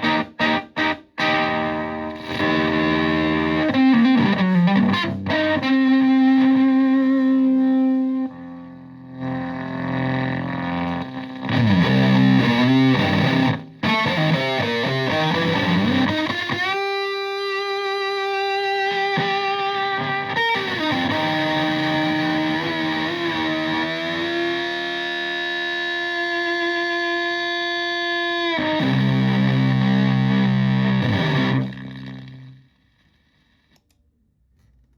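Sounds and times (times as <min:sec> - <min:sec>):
fuzz electric guitar: 0:00.0 - 0:32.8.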